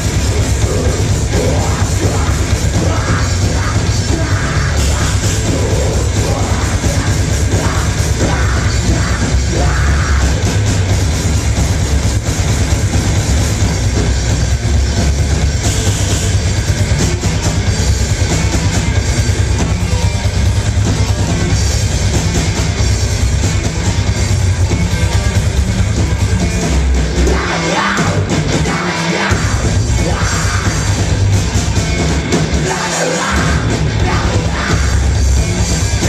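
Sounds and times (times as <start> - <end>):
heavy rock band playing: 0.0 - 36.0.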